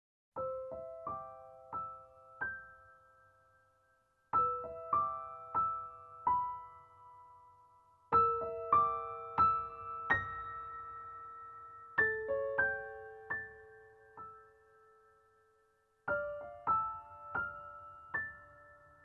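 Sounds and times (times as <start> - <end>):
slow piano melody: 0.4 - 19.0.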